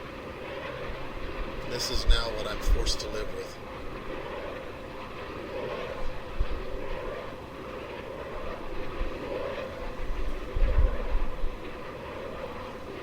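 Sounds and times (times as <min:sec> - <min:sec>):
wind buffeting microphone: 0:00.0 - 0:13.0
wind turbines roaring rumble: 0:00.0 - 0:13.0.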